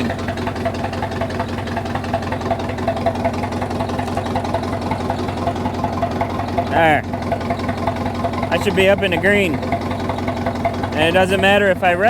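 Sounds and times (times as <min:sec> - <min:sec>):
bulldozer engine idling: 0:00.0 - 0:12.0.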